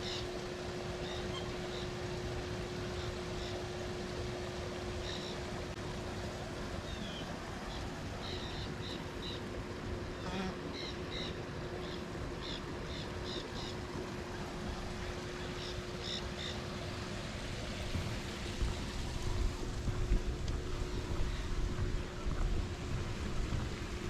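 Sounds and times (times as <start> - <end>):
faint steady hum: 0.0 - 24.0
outdoor hiss: 0.0 - 24.0.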